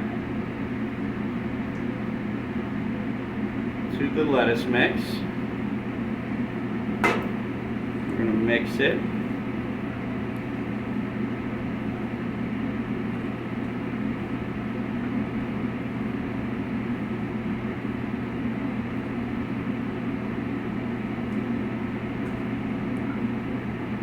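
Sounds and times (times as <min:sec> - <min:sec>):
ventilation fan humming: 0:00.0 - 0:24.0.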